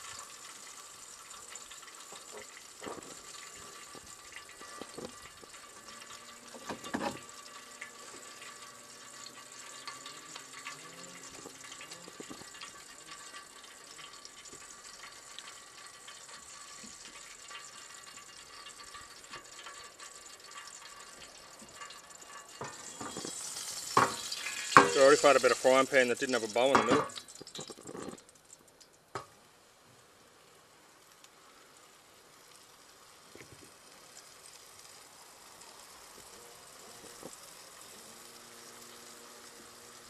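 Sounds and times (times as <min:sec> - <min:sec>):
gas camp stove hissing: 0:00.0 - 0:28.2, 0:29.1 - 0:40.0.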